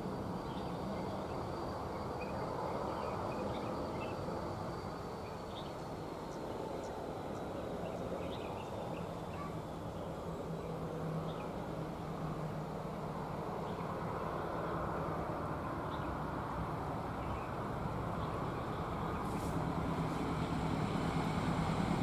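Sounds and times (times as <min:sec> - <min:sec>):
distant engines rumbling: 0:00.0 - 0:22.0
faint high whine: 0:00.0 - 0:22.0.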